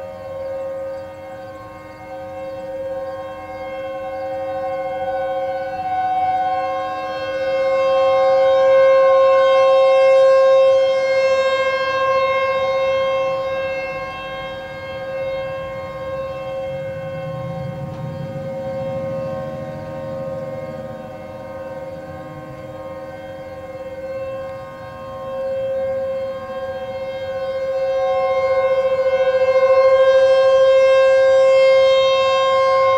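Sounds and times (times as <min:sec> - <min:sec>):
warning sirens steady tone: 0:00.0 - 0:32.9.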